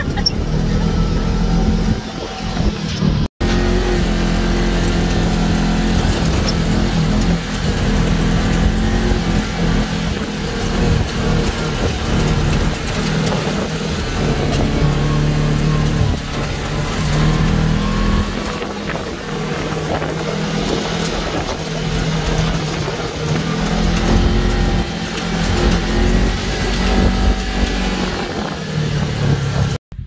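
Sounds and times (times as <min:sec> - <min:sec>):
atv engine running: 0:00.0 - 0:30.0
wind rumbling on microphone: 0:00.0 - 0:30.0.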